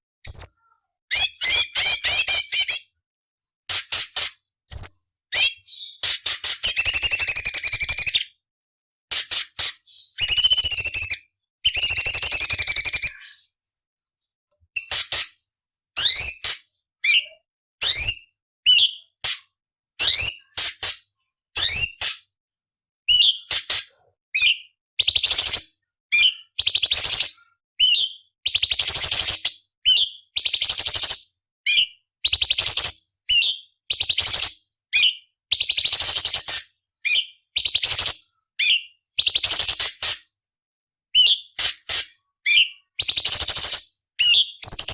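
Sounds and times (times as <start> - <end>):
bird singing harsh and whistled phrases: 0.2 - 3.0, 3.7 - 8.5, 9.1 - 13.8, 14.7 - 22.4, 23.1 - 40.4, 41.1 - 44.9.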